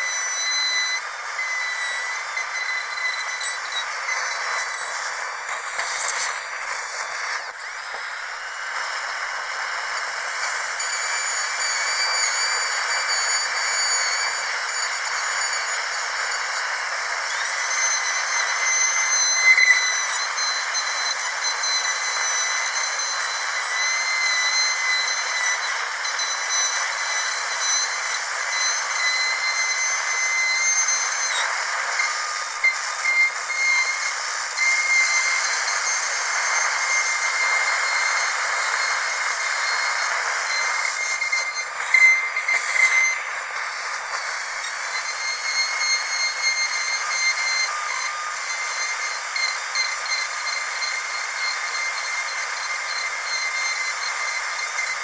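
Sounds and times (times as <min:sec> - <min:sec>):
dentist's drill whining: 0:00.0 - 0:55.0.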